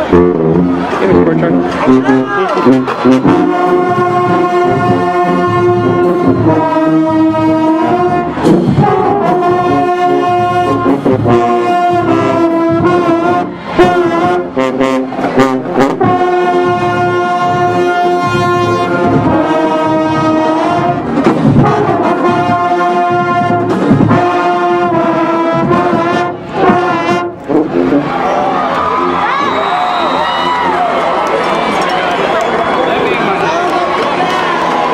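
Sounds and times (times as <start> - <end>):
marching band brass playing chords: 0.0 - 34.9.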